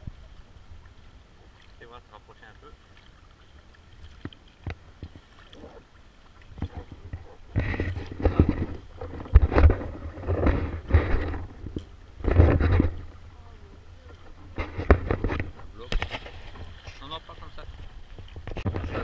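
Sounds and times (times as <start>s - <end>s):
paddle splashes and knocks: 0.0s - 19.0s.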